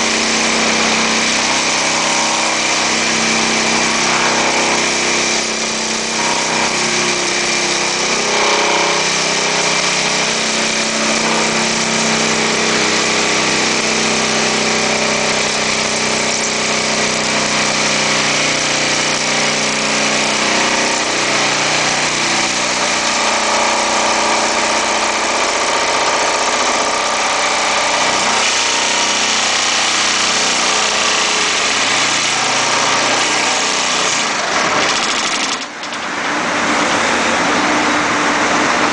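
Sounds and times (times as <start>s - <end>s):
engine running: 0.0s - 38.9s
vibratory pile hammer drone: 0.0s - 38.9s.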